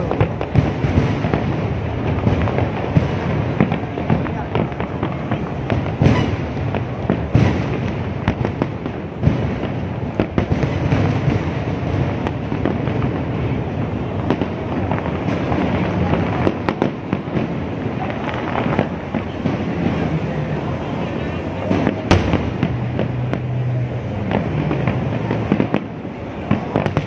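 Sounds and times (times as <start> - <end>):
sharp fireworks bangs: 0.0 - 27.0.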